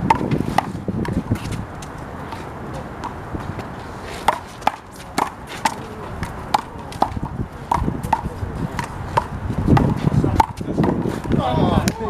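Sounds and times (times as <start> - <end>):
handball smacking wall and pavement: 0.0 - 12.0.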